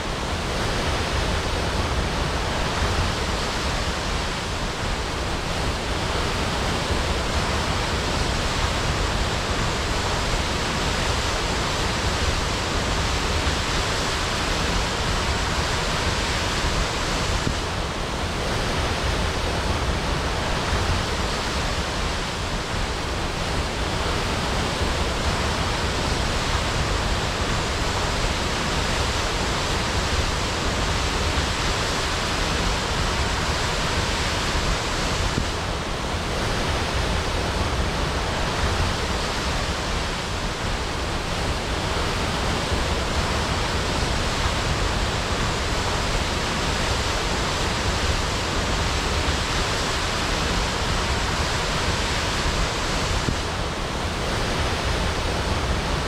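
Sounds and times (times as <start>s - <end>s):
waterfall crashing: 0.0s - 56.0s.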